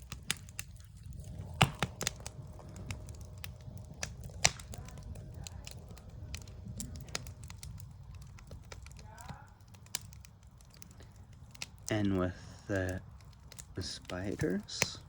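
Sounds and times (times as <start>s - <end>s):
low steady rumble: 0.0s - 15.0s
sharp pops: 0.0s - 15.0s
wood fire crackling: 0.0s - 15.0s.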